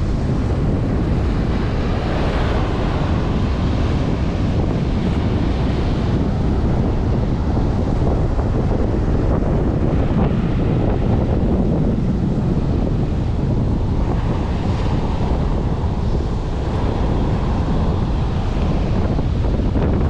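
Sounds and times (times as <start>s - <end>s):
strong wind buffeting microphone: 0.0s - 20.0s
surf washing: 0.0s - 20.0s.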